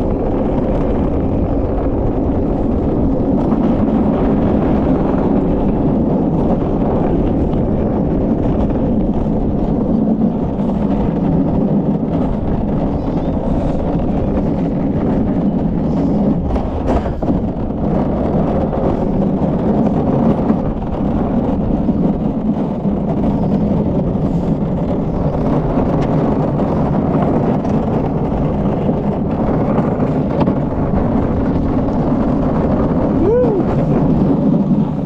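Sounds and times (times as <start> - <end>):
kart wheels rolling on concrete: 0.0 - 35.0.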